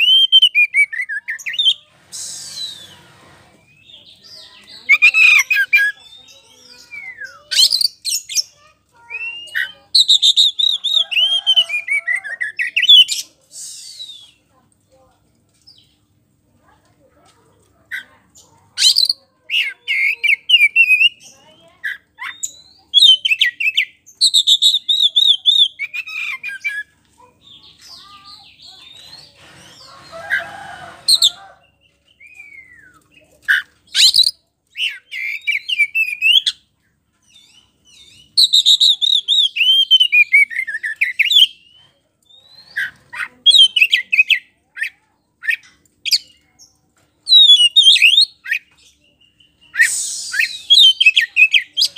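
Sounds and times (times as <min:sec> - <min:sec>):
bird singing: 0:00.0 - 0:03.0, 0:03.6 - 0:13.3, 0:18.4 - 0:36.6, 0:37.2 - 0:49.8, 0:50.4 - 0:51.9.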